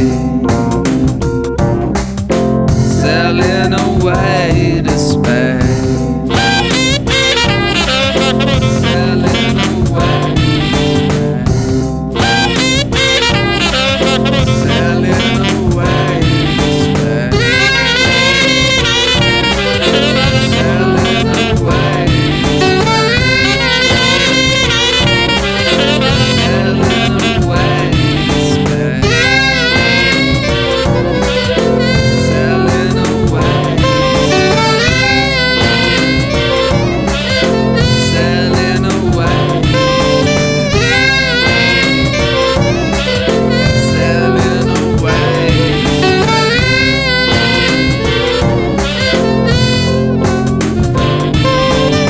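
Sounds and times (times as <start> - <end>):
instrumental band music: 0.0 - 52.0
lead line with bending notes: 0.0 - 52.0
steady drum beat: 0.0 - 52.0.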